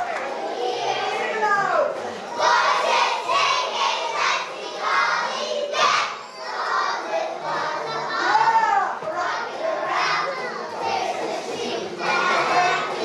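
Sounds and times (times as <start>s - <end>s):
children singing and shouting: 0.0s - 13.0s
faint music: 0.0s - 13.0s.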